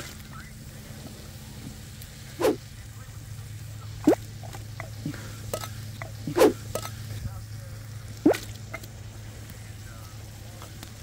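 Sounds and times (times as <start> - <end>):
campfire pops: 0.0 - 11.0
steady low hum: 0.0 - 11.0.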